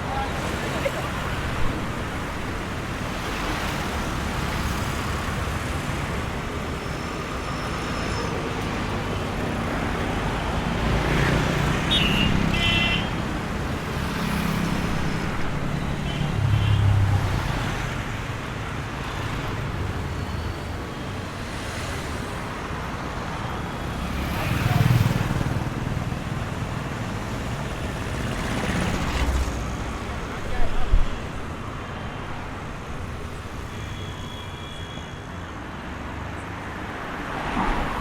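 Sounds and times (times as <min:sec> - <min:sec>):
heavy vehicles passing: 0:00.0 - 0:33.8
road traffic passing: 0:00.0 - 0:38.0.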